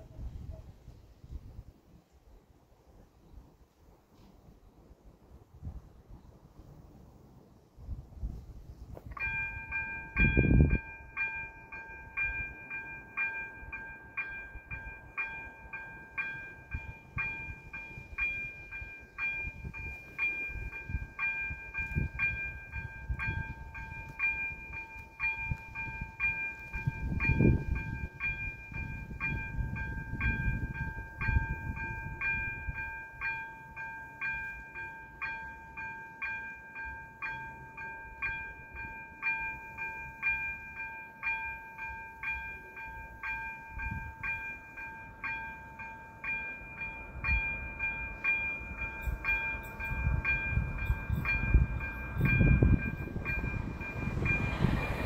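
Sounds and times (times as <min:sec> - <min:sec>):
level-crossing warning bell: 0:09.1 - 0:55.0.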